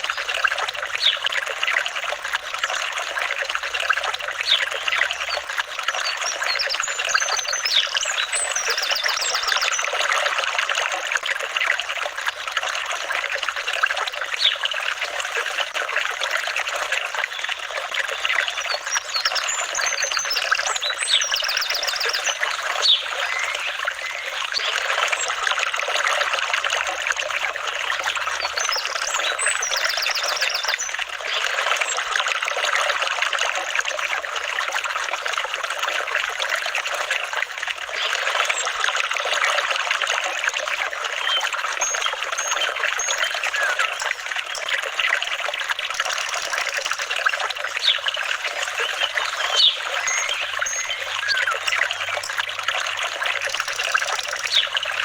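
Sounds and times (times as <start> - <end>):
water trickling and babbling: 0.0 - 55.0.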